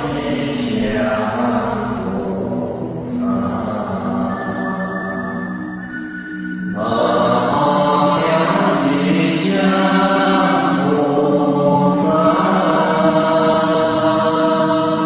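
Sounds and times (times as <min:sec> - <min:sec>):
voices chanting together: 0:00.0 - 0:06.0, 0:06.6 - 0:15.0
sustained musical drone: 0:00.0 - 0:15.0.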